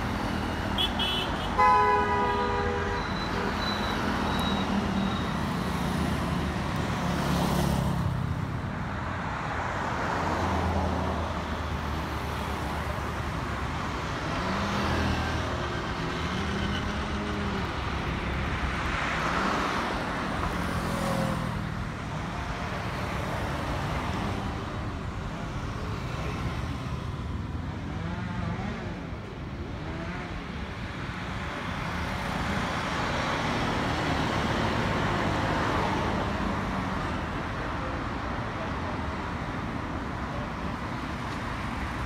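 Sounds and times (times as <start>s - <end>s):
cars passing: 0.0s - 42.0s.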